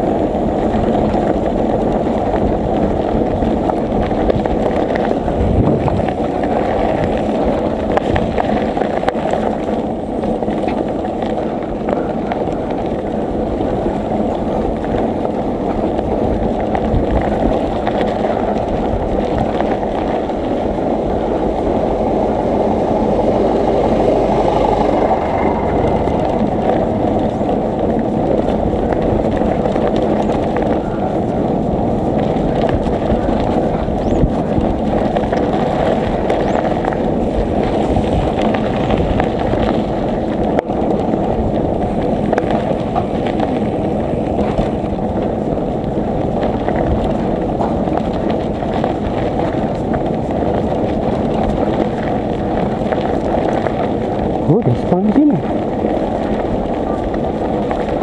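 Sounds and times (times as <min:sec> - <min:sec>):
bicycle tyres rolling on road: 0:00.0 - 0:58.0
wind buffeting microphone: 0:00.0 - 0:58.0.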